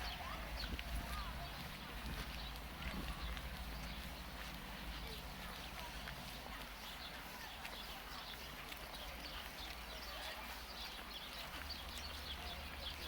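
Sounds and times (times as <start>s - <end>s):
low rumble of city background: 0.0s - 13.0s
small birds chirping: 0.0s - 13.0s.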